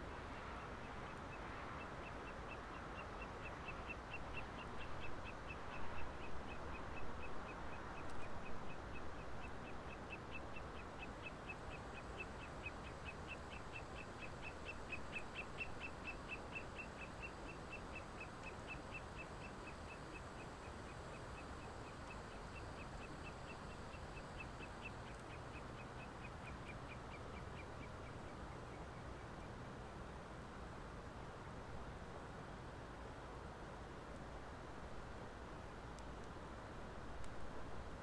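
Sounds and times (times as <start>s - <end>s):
soft even hiss: 0.0s - 38.0s.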